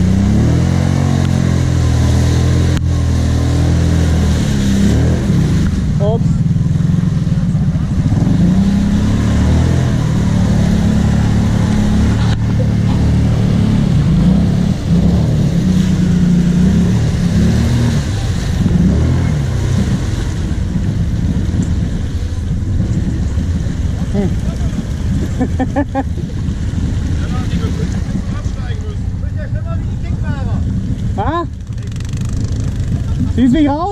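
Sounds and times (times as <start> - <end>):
quad engine revving under load: 0.0 - 28.6, 30.6 - 33.9
mud and water splashing: 0.0 - 33.9.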